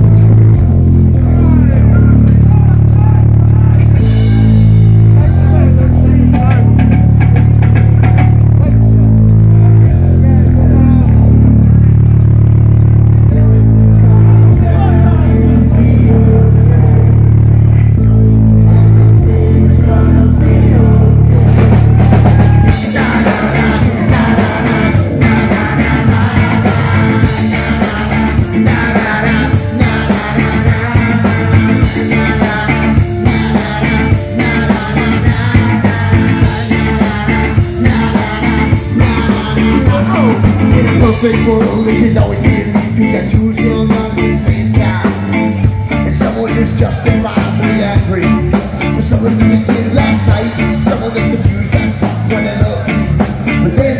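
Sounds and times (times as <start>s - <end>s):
person singing: 0.0s - 12.3s, 13.2s - 53.9s
bass guitar: 0.0s - 53.9s
drum kit: 0.0s - 53.9s
electric guitars: 0.0s - 53.9s.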